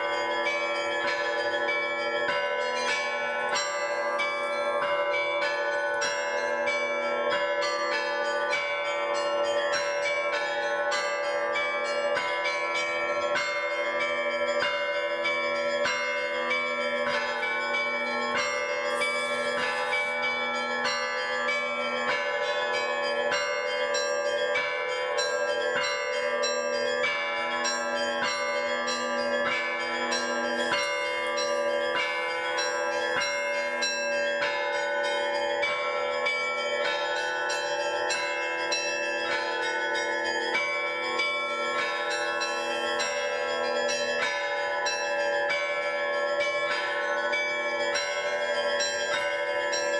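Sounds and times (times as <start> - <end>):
deep bells ringing: 0.0 - 49.9
small bells struck rapidly: 0.0 - 49.9.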